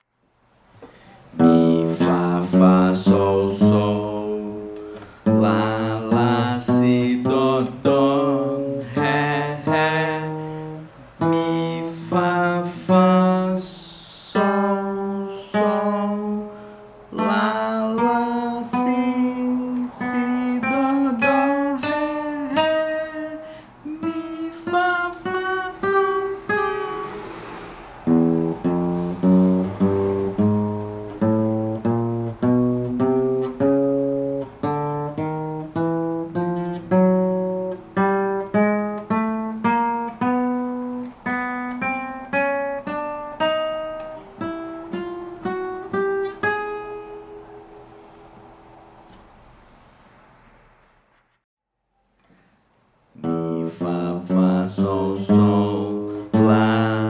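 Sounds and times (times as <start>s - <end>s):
acoustic guitar plucked notes: 0.8s - 49.3s, 53.2s - 57.0s.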